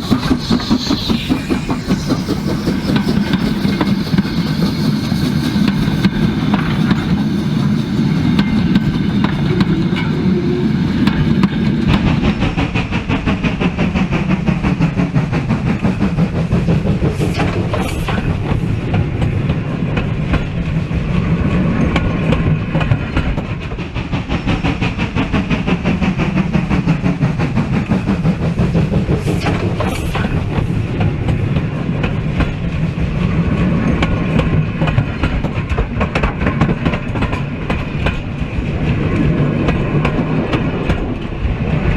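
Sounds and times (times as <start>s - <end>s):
model train rumbling: 0.0s - 41.9s
wheels clicking over rails: 0.0s - 41.9s.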